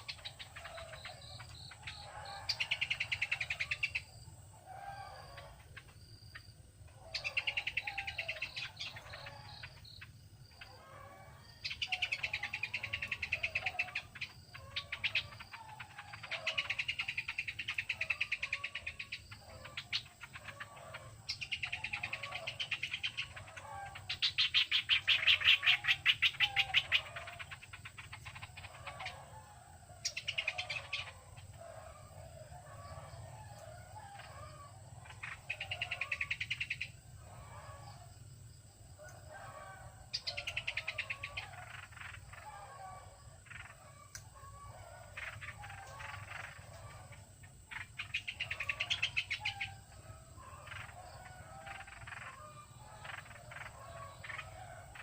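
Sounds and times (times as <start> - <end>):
songbirds chattering trills: 0.0 - 55.0.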